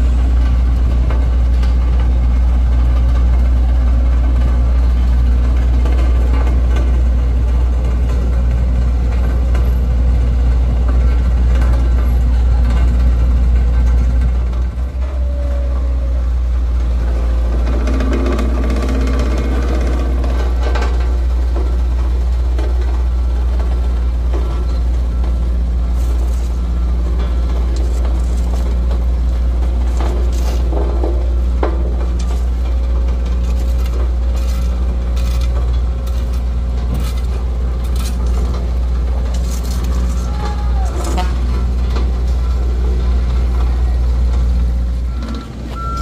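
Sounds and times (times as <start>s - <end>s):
truck engine rumbling: 0.0s - 46.0s.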